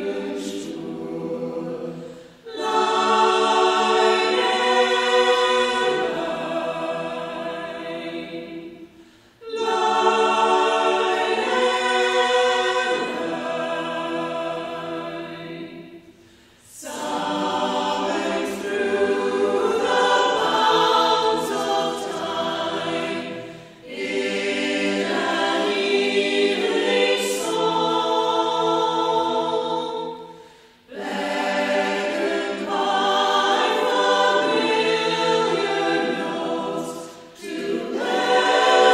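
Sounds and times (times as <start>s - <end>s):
choir singing sustained chords: 0.0s - 38.9s.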